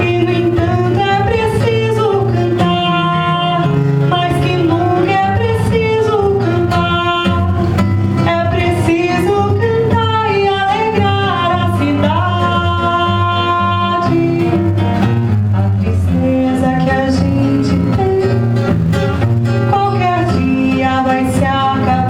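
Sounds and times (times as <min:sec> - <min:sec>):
woman singing slow melody: 0:00.0 - 0:18.7, 0:19.6 - 0:22.0
acoustic guitar: 0:00.0 - 0:22.0.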